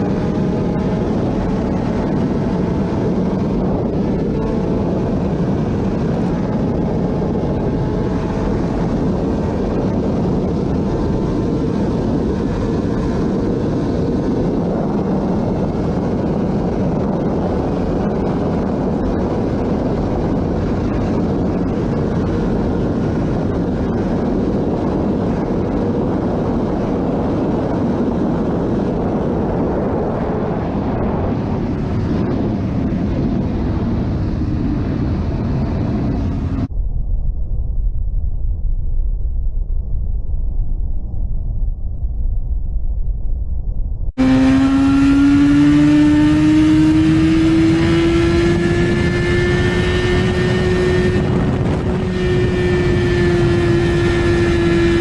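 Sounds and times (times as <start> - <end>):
motorbike engine running hard: 0.0 - 36.7, 44.2 - 55.0
wind rush over microphone: 0.0 - 55.0.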